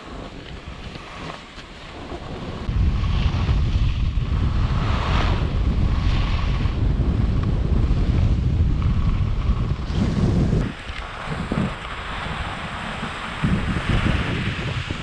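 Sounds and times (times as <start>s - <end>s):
skis hissing on snow: 0.0s - 6.8s, 9.6s - 15.0s
wind buffeting microphone: 0.0s - 15.0s.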